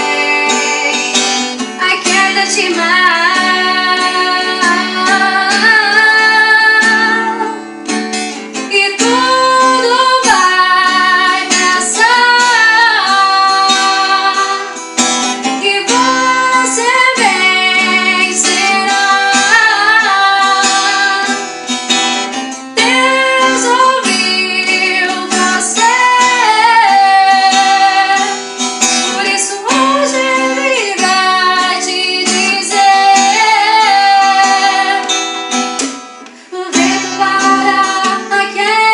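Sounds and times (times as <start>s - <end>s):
woman singing a hymn: 0.0s - 1.2s, 1.8s - 7.6s, 8.7s - 14.8s, 15.6s - 21.4s, 22.8s - 28.4s, 29.1s - 35.1s, 36.5s - 38.9s
acoustic guitar: 0.0s - 38.9s.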